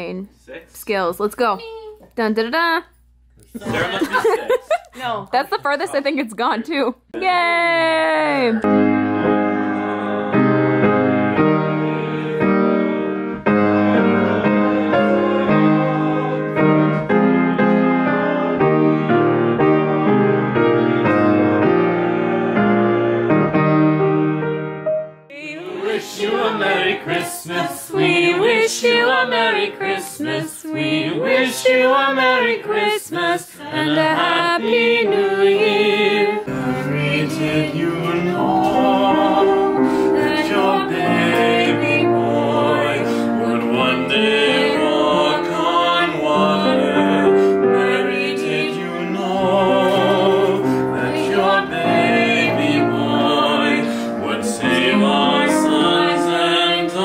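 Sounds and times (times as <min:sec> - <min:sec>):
group of voices singing: 0:08.4 - 0:23.5, 0:25.3 - 0:57.0
piano accompaniment: 0:08.4 - 0:57.0.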